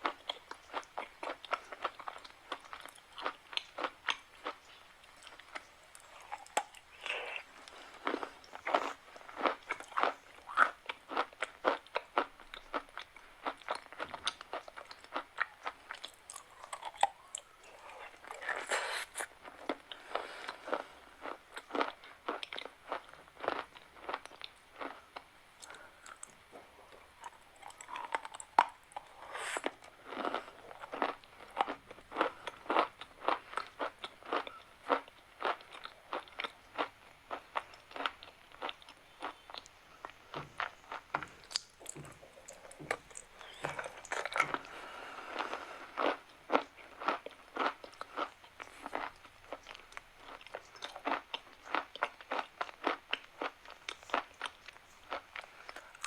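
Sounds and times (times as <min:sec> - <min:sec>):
chalk being chewed: 0:00.0 - 0:25.0, 0:27.2 - 0:56.0.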